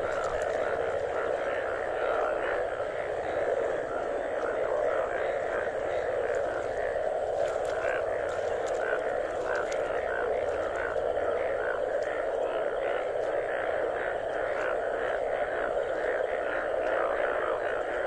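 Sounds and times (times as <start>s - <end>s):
chorus of bullfrogs calling: 0.0s - 18.0s.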